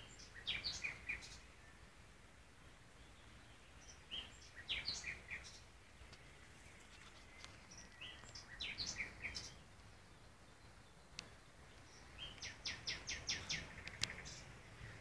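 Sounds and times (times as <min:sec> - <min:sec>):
faint outdoor background noise: 0:00.0 - 0:15.0
songbird chirping: 0:00.0 - 0:15.0.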